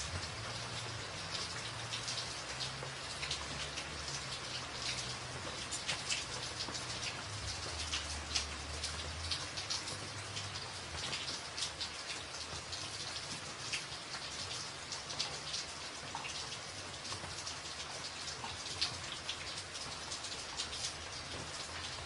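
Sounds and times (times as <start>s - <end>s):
rain on a tin roof: 0.0s - 22.0s.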